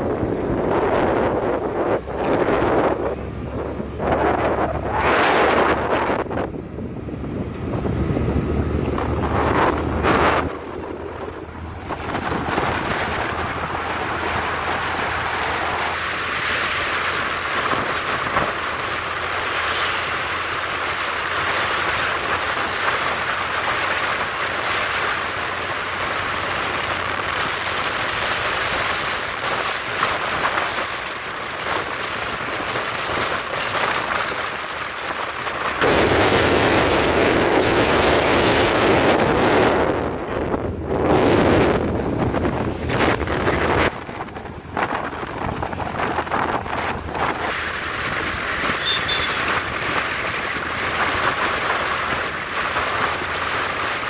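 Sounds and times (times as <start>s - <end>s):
tyre and passing traffic noise: 0.0s - 54.0s
wind rushing over microphone: 0.0s - 54.0s.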